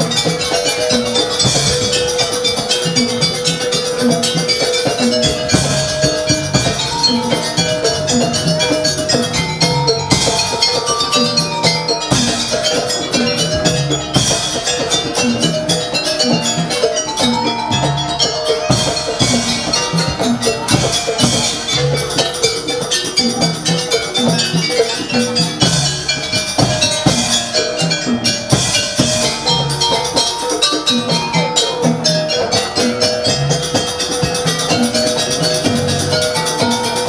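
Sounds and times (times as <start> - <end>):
hand drums beating fast rhythm: 0.0 - 37.0
metallophones: 0.0 - 37.0.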